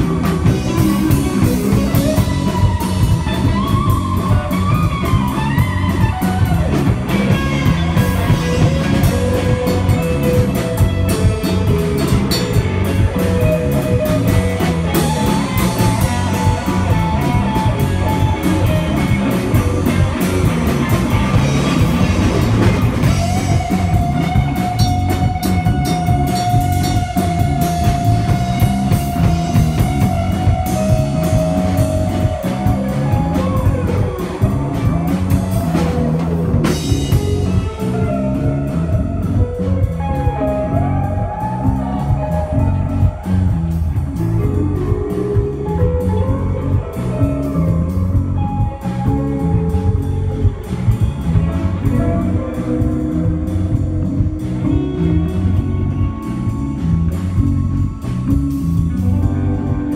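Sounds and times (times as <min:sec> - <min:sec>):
drum kit: 0:00.0 - 0:59.9
electric bass: 0:00.0 - 0:59.9
electric guitar lead: 0:00.0 - 0:59.9.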